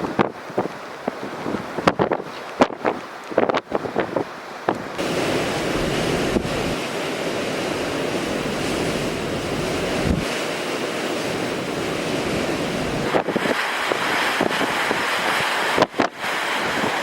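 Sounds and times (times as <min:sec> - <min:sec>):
blizzard wind buffeting microphone: 0:00.0 - 0:17.0.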